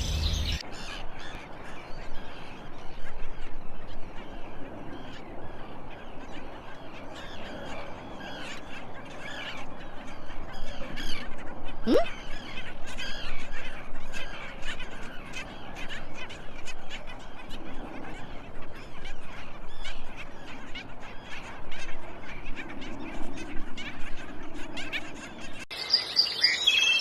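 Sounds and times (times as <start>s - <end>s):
small cage birds chirping: 0.0s - 5.4s, 6.1s - 27.0s.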